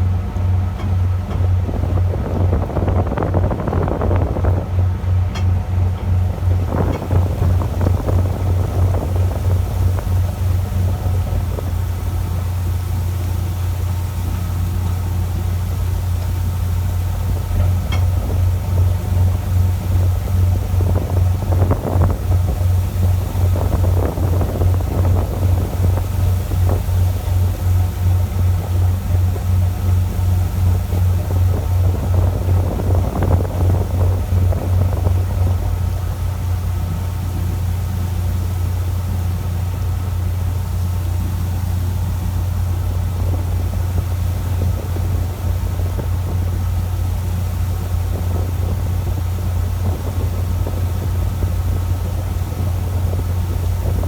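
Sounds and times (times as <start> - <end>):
boat engine throbbing: 0.0 - 54.0
washes of water or wind: 0.0 - 54.0.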